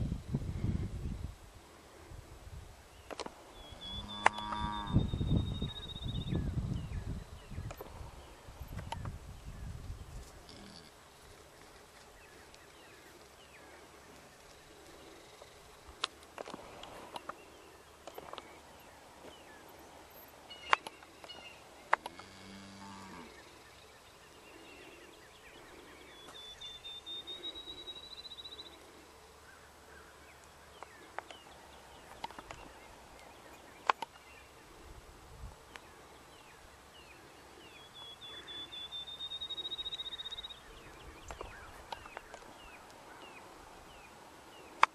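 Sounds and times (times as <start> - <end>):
birds chirping: 2.8 - 35.0, 35.6 - 44.9.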